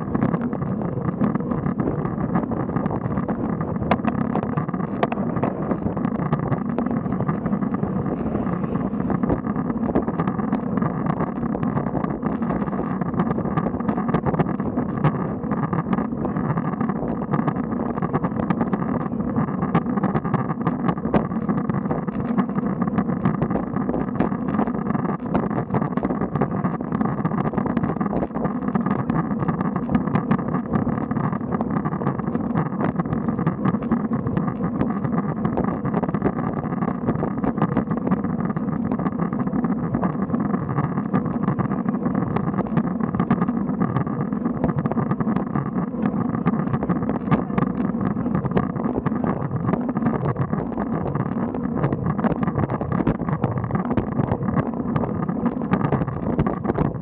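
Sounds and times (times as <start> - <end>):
wind and tyre noise: 0.0 - 57.0.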